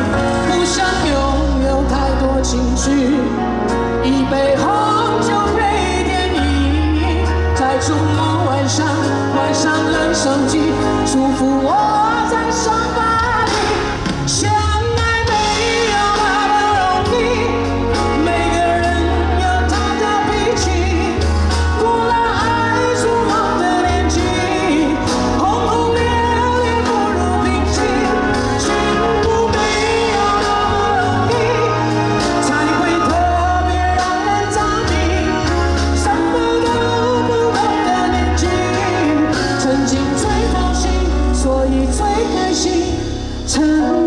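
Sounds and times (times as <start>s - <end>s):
band accompaniment: 0.0s - 44.0s
steady bass line: 0.0s - 44.0s
woman singing into a microphone: 0.0s - 44.0s.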